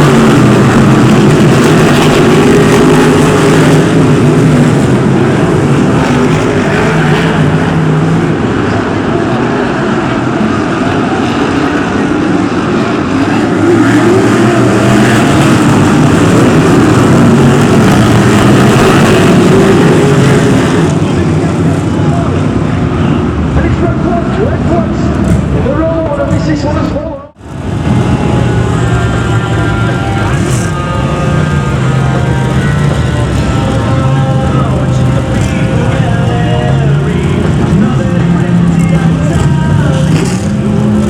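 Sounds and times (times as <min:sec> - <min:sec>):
racing car engines: 0:00.0 - 0:41.0.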